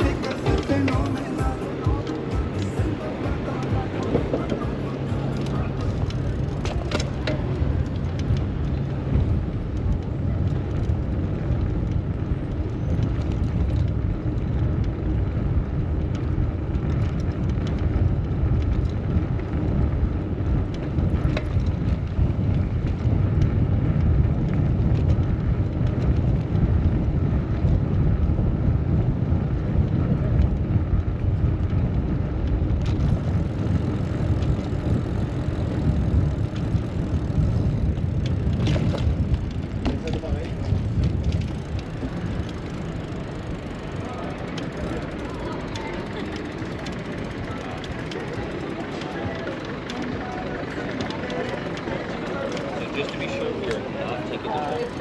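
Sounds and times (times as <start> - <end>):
road and traffic rumble: 0.0 - 55.0.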